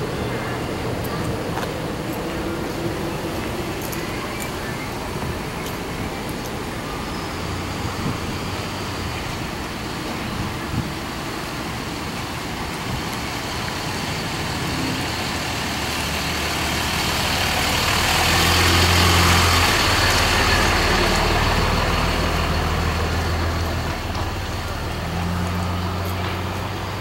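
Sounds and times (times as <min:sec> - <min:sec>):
traffic noise: 0:00.0 - 0:27.0
vehicle engine humming: 0:00.0 - 0:27.0.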